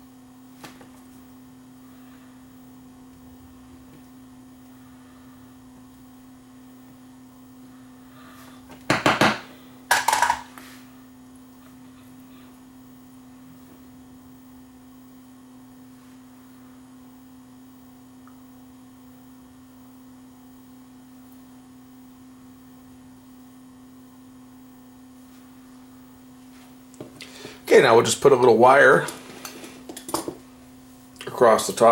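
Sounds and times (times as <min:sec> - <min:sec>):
low electrical hum: 0:00.0 - 0:31.9.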